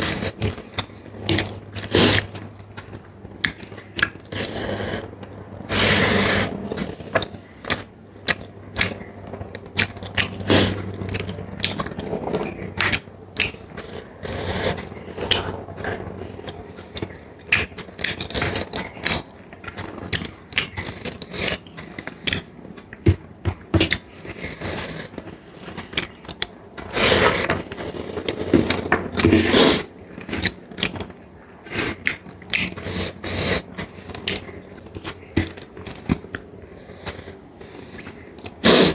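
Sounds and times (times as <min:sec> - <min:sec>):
wet mouth clicks and chewing: 0:00.0 - 0:29.3, 0:30.1 - 0:38.7
smacking or slurping: 0:00.0 - 0:38.9.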